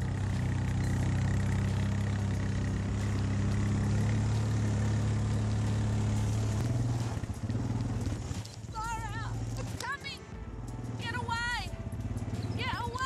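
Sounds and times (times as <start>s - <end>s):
quad bike engine droning: 0.0s - 13.0s.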